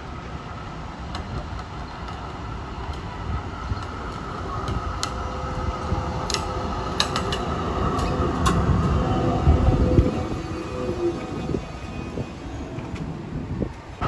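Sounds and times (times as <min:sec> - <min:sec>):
tram running rumble: 0:00.0 - 0:14.0
wheels clicking on rails: 0:00.9 - 0:14.0.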